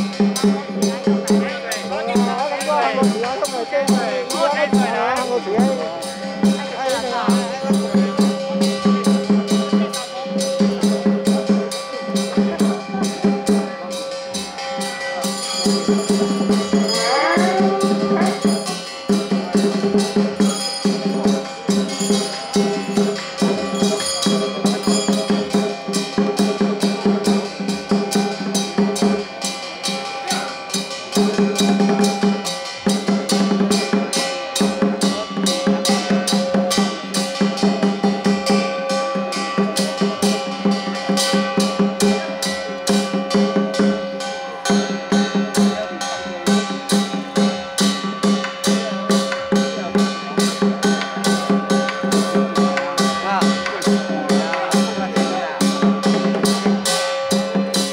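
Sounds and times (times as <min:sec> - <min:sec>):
drum and percussion beating: 0:00.0 - 0:57.9.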